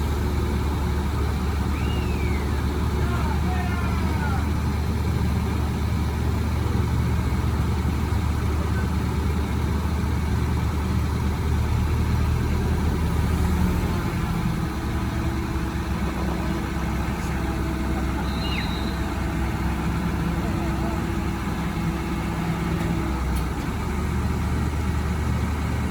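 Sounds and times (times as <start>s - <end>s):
crane engine running: 0.0s - 25.9s.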